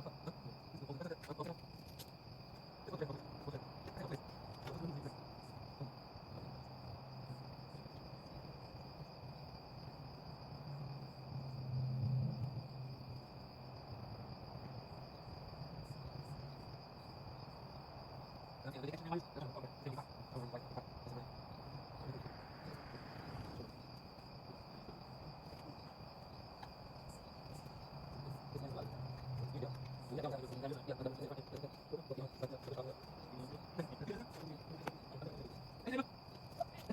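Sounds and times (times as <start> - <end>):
night insects chirring: 0.0 - 36.9.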